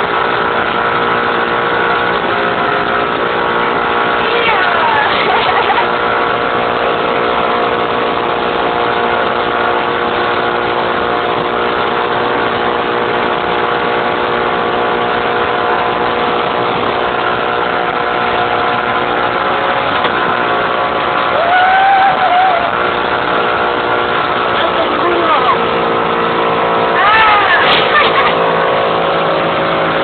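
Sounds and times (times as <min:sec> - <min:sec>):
outboard motor running: 0:00.0 - 0:30.0
water rushing from wake: 0:00.0 - 0:30.0.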